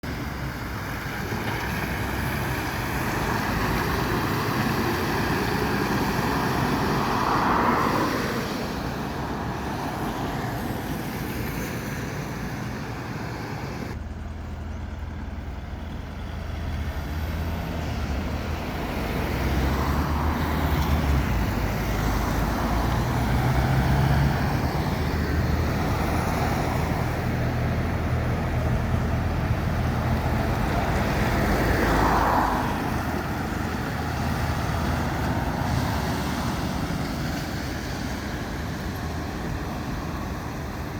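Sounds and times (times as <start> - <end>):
heavy engine humming: 0.0 - 40.9
road traffic rushing: 0.0 - 40.9.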